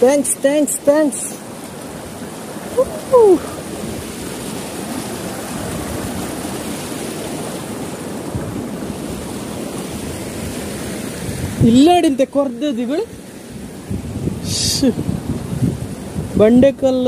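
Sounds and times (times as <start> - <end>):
flowing water: 0.0 - 17.0.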